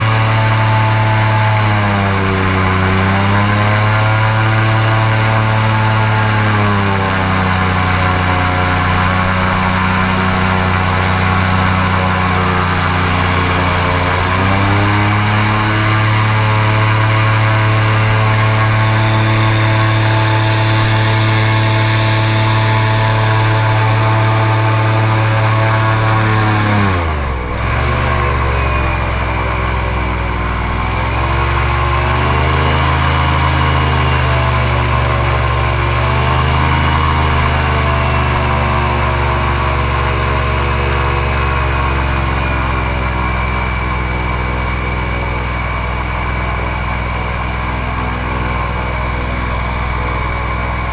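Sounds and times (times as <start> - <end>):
airboat engine and propeller drone: 0.0 - 50.9.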